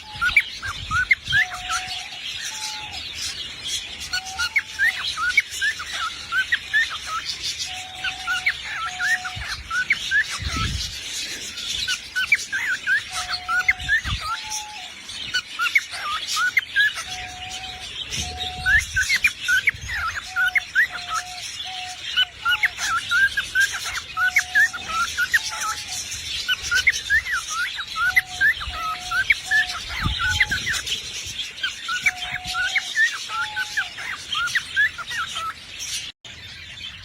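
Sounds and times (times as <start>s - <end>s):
parrot chirping and whistling: 0.0s - 3.0s, 4.1s - 10.8s, 11.6s - 30.9s, 31.6s - 35.6s.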